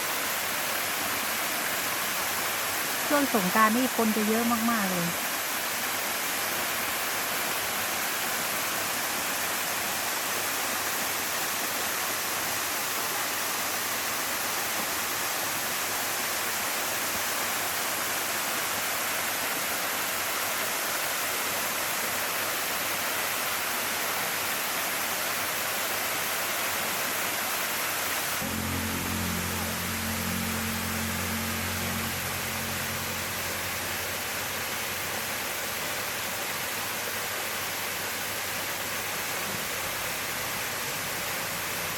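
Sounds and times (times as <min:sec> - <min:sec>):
water rushing in a stream: 0:00.0 - 0:41.9.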